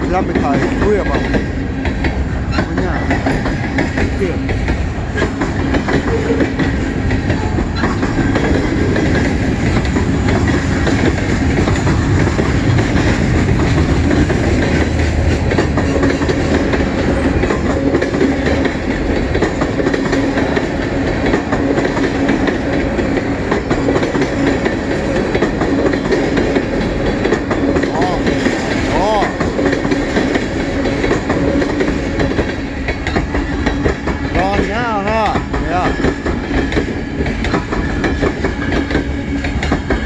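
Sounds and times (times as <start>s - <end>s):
freight train wheels clattering: 0.0s - 40.0s.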